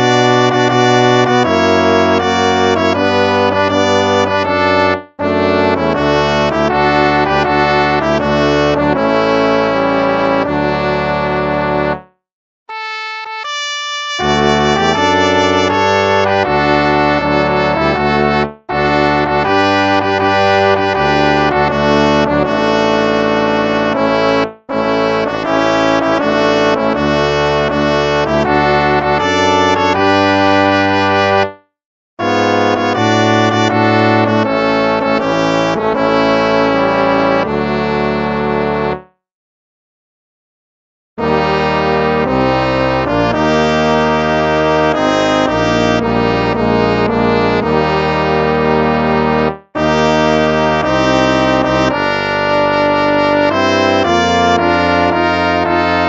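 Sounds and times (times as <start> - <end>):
instrumental hymn music: 0.0 - 39.2, 41.2 - 56.0.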